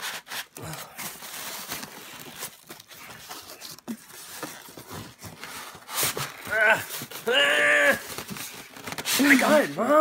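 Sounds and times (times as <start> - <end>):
cardboard and plastic rustling: 0.0 - 10.0.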